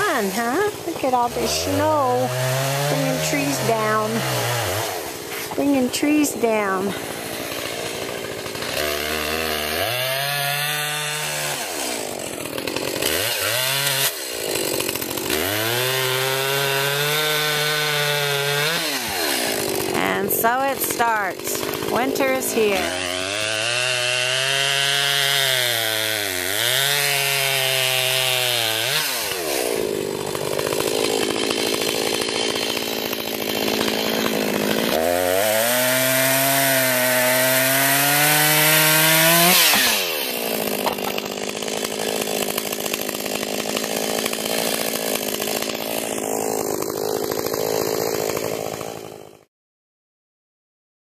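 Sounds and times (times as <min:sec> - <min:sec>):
chainsaw cutting wood: 0:00.0 - 0:49.5.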